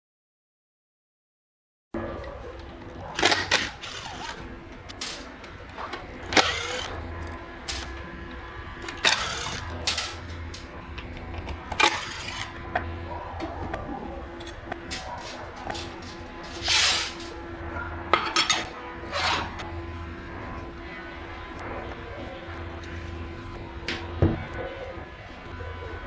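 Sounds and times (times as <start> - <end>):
steady low hum: 2.0 - 26.0.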